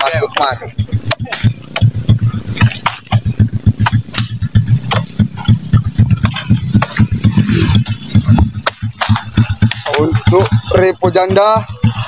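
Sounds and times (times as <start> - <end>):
motorcycle engine idling: 0.0 - 12.0
sharp knocks and clatter: 0.0 - 12.0.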